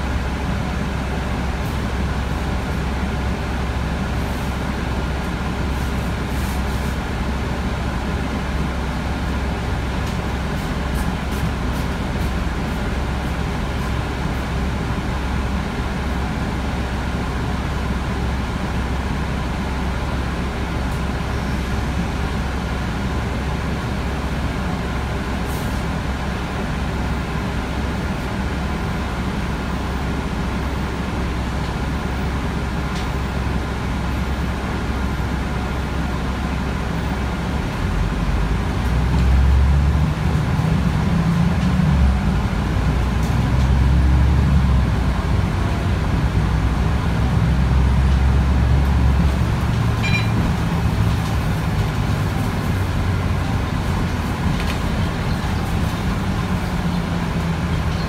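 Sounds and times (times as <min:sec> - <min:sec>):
bus diesel engine droning: 0:00.0 - 0:58.0
road and cabin rumble: 0:00.0 - 0:58.0.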